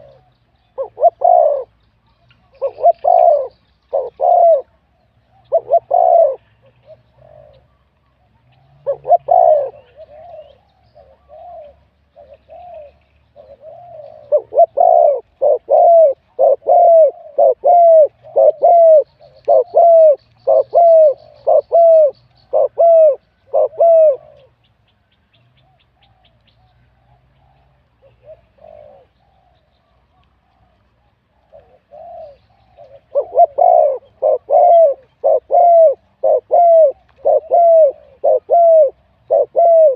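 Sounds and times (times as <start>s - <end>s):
dove cooing: 0.0s - 1.8s, 2.4s - 24.7s, 25.6s - 39.9s.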